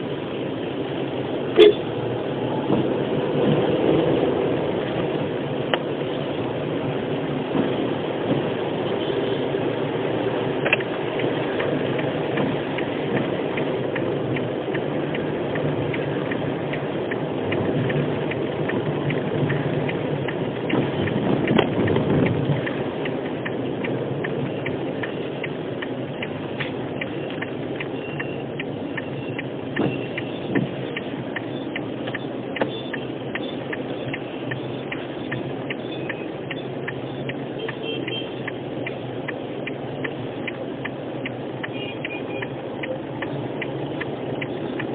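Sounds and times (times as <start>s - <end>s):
car engine and road noise: 0.0s - 44.9s
raindrops ticking on windshield: 0.0s - 44.9s.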